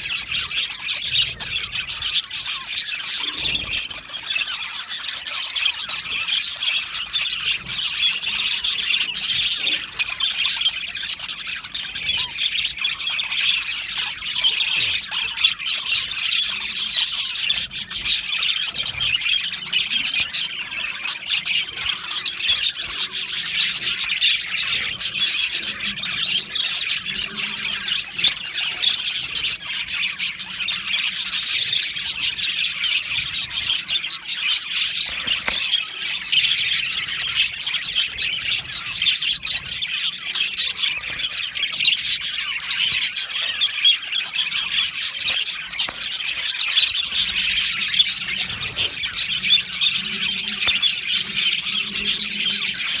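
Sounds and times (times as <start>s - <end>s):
budgerigars chattering: 0.0s - 53.0s.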